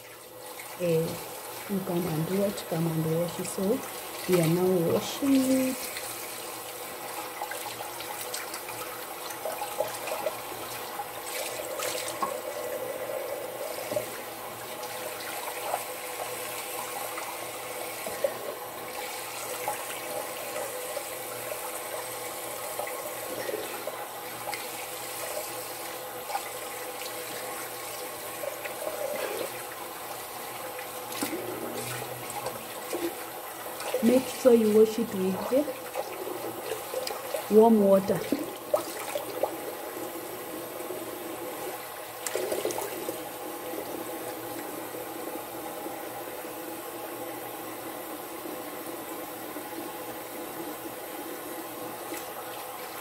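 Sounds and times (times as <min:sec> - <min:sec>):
tap water running into sink: 0:00.0 - 0:46.5, 0:47.8 - 0:53.0.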